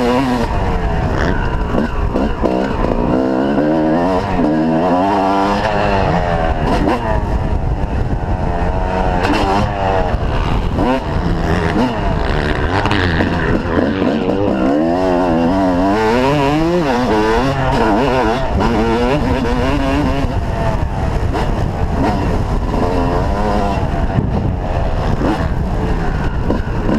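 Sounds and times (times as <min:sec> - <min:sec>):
motocross bike engines revving: 0:00.0 - 0:26.9.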